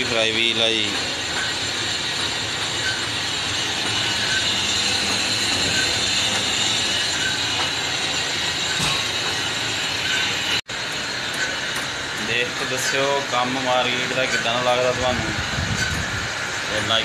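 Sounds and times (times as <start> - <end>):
metal lathe hum and whine: 0.0 - 17.0.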